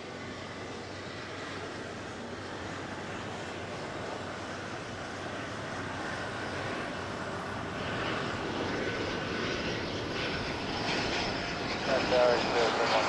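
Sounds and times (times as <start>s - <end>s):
aircraft engine rushing whine: 0.0s - 13.0s.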